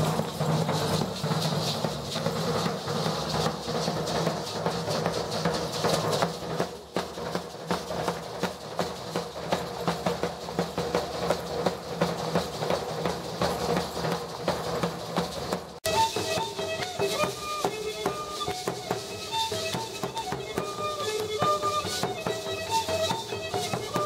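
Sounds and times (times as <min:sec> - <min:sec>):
hand drum dance rhythm: 0:00.0 - 0:24.0.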